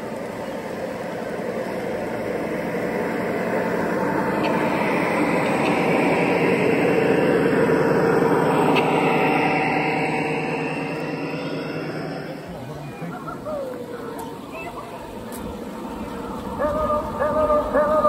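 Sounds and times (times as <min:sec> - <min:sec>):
model locomotives running past: 0:00.0 - 0:18.0.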